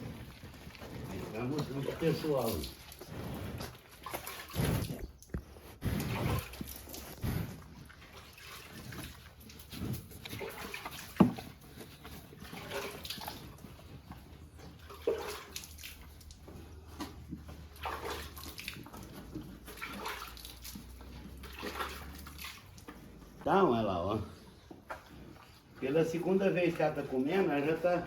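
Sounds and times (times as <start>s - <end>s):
cow snuffling and munching: 0.0s - 28.0s.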